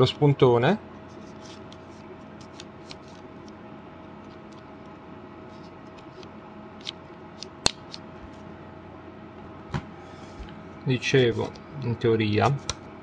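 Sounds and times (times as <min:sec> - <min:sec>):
faint steady hum and hiss: 0:00.0 - 0:13.0.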